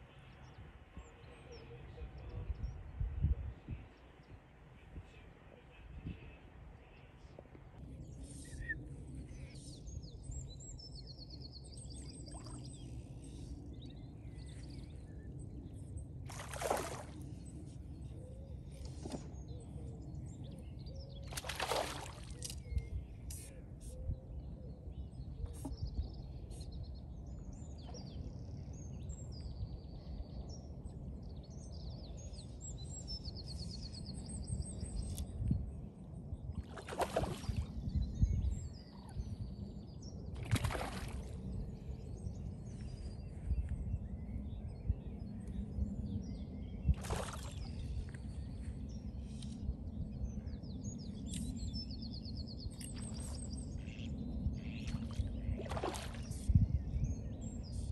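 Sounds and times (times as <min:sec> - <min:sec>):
small birds singing: 0:00.0 - 0:57.9
wind rumble on microphone: 0:00.0 - 0:57.9.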